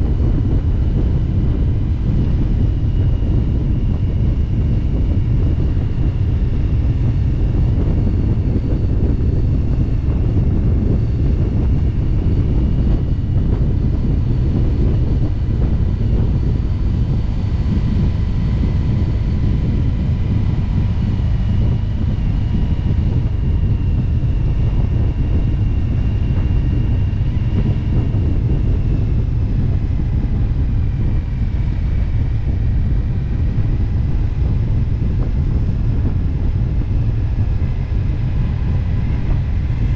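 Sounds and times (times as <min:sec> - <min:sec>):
faint whine tones: 0:00.0 - 0:39.9
wind buffeting microphone: 0:00.0 - 0:39.9.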